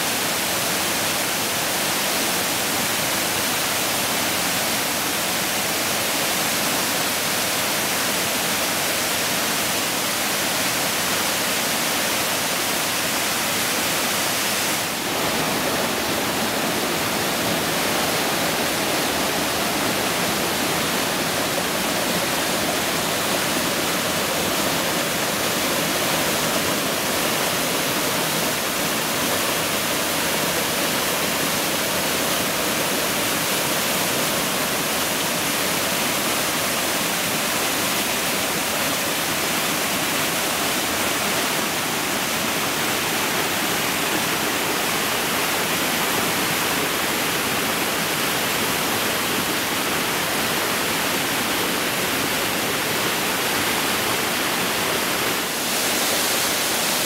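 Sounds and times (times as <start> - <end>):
stream water cascading over rocks: 0.0 - 57.0.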